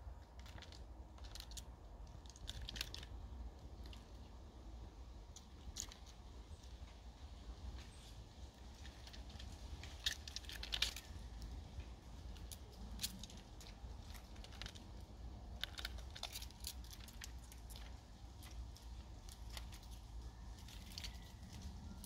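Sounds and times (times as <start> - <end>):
crackles over bark and leaves: 0.0 - 22.0
low steady rumble: 0.0 - 22.0.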